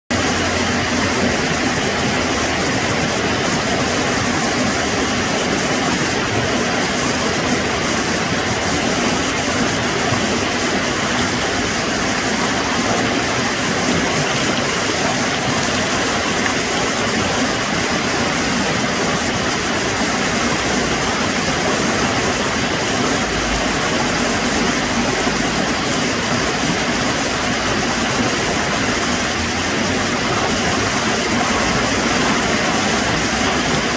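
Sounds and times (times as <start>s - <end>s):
water rushing down spillway: 0.1s - 33.9s.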